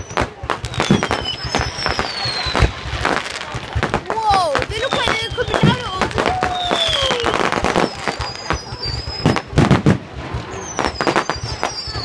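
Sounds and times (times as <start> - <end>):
fireworks bangs and crackles: 0.0 - 12.0
whistling fireworks: 0.0 - 12.0.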